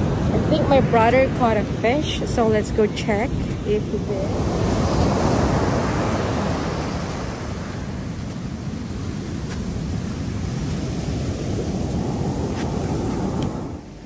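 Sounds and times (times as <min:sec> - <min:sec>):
ocean surf breaking on sand: 0:00.0 - 0:14.0
wind rumbling on microphone: 0:00.0 - 0:14.0.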